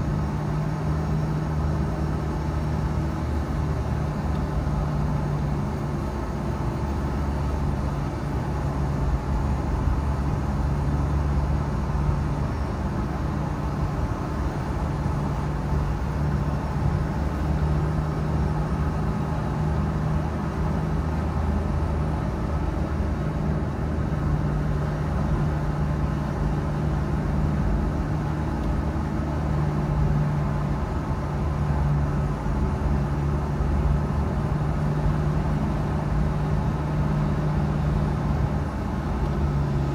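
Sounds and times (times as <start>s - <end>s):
car engine drone: 0.0s - 39.9s
tyre and road noise: 0.0s - 39.9s.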